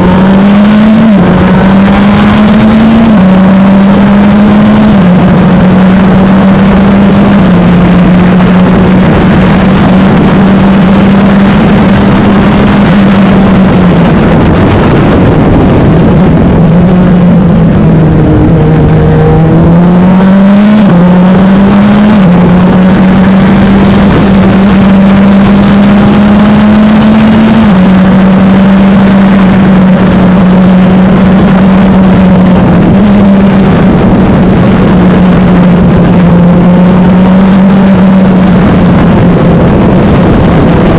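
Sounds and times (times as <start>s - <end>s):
race car engine at high revs: 0.0s - 40.9s.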